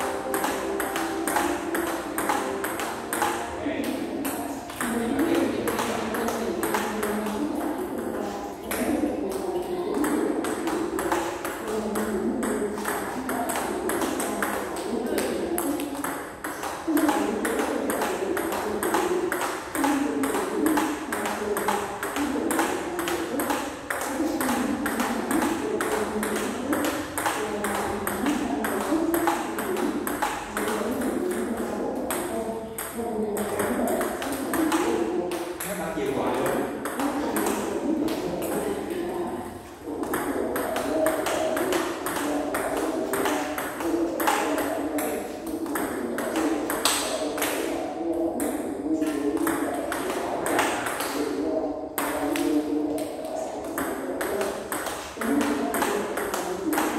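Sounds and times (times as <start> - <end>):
table tennis ball clicking: 0.0 - 35.8, 39.9 - 47.8, 48.4 - 51.4, 52.0 - 56.9.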